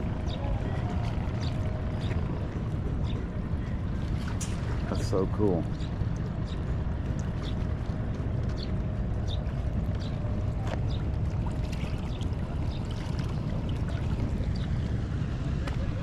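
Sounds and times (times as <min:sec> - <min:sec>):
low rumble of boats: 0:00.0 - 0:16.0.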